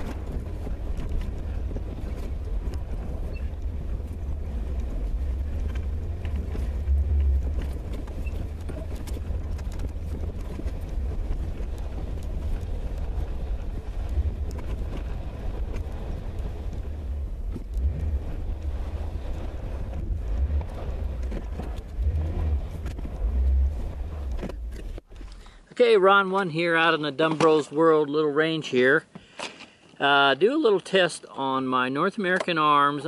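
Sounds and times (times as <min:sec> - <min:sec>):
engine and road rumble: 0:00.0 - 0:33.0.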